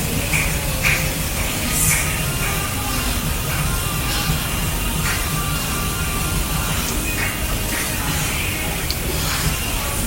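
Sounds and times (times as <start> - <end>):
music with low pulse: 0.0 - 10.0.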